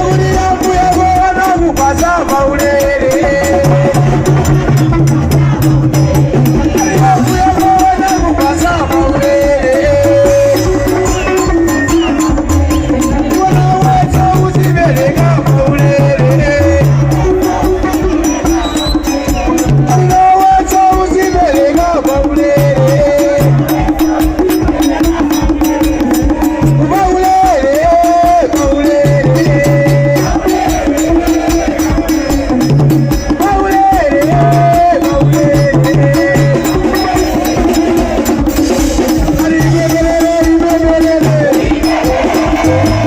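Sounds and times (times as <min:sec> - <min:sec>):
fast clicking percussion: 0:00.0 - 0:43.0
held melody line: 0:00.0 - 0:43.0.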